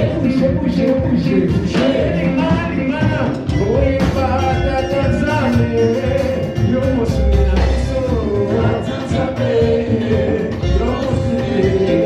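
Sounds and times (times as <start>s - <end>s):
live band playing: 0.0s - 12.0s
voices singing: 0.0s - 12.0s.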